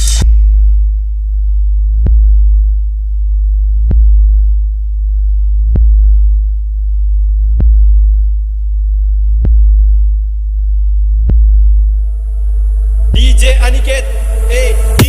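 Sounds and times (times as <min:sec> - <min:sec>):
deep sub-bass tone: 0:00.0 - 0:15.0.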